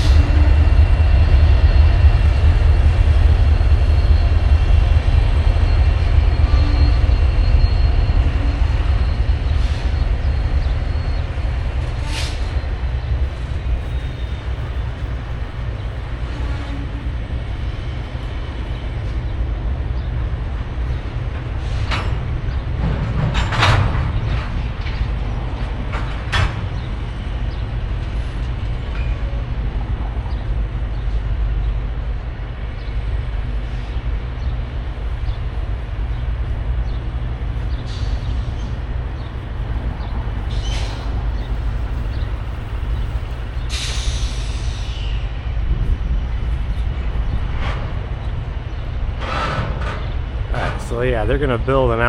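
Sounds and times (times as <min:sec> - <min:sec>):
diesel locomotive rumbling: 0:00.0 - 0:52.0.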